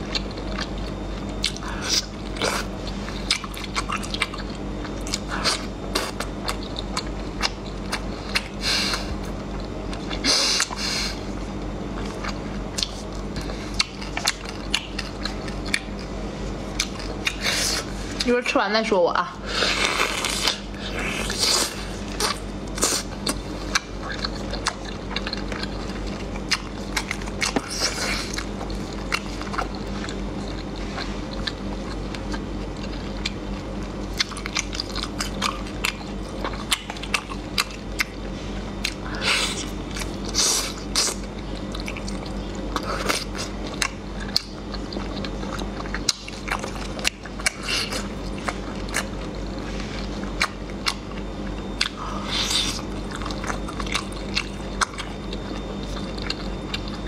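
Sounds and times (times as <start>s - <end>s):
chewing and biting: 0.0s - 18.4s, 19.5s - 57.0s.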